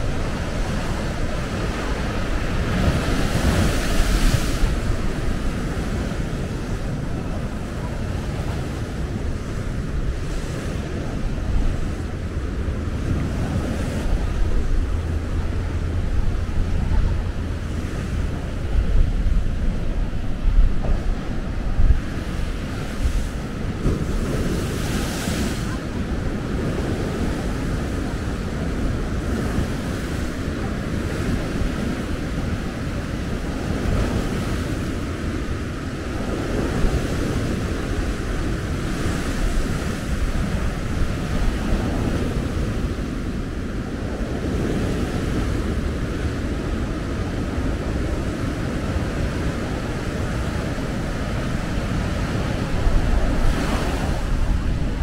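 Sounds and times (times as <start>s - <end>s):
surf wash: 0.0s - 55.0s
waves crashing on shore: 0.0s - 55.0s
wind buffeting microphone: 0.0s - 55.0s.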